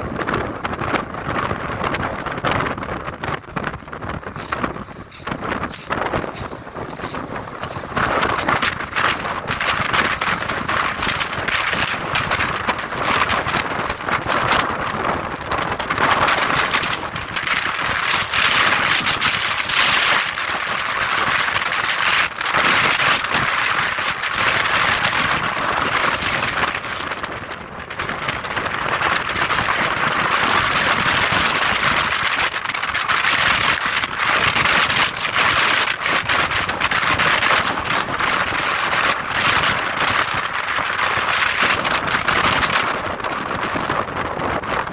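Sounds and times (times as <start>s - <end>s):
gusting wind on microphone: 0.0s - 44.9s.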